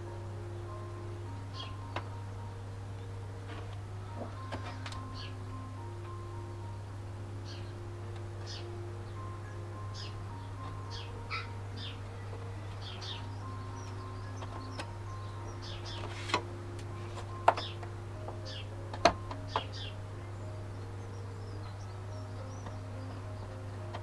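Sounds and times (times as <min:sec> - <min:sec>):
birds chirping: 0:00.0 - 0:24.0
faint background melody: 0:00.0 - 0:24.0
steady low hum: 0:00.0 - 0:24.0.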